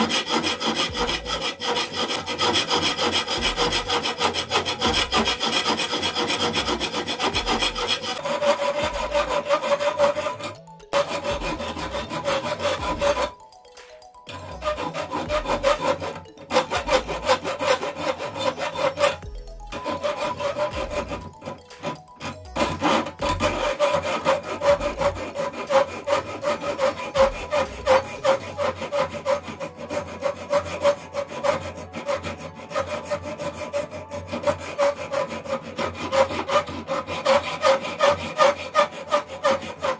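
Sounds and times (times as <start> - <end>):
hand file rasping on iron: 0.0 - 39.9.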